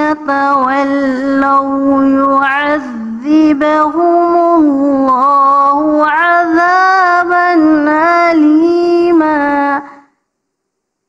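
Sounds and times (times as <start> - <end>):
woman reciting melodically: 0.0 - 10.2.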